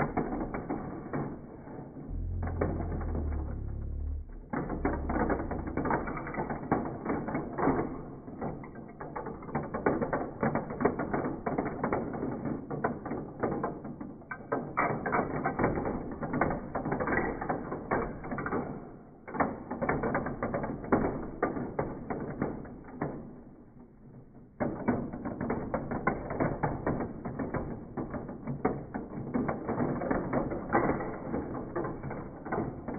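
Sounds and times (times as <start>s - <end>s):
metal marbles clattering down a run: 0.0s - 23.2s, 24.7s - 32.9s.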